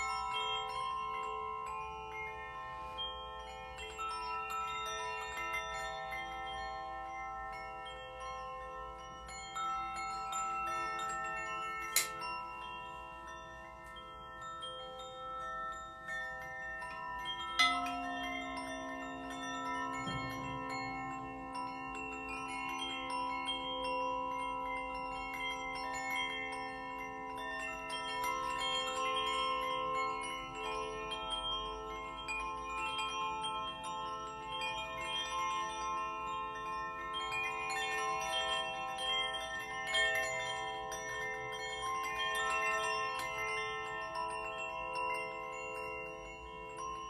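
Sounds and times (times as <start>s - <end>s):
small bells and chimes ringing: 0.0s - 47.0s.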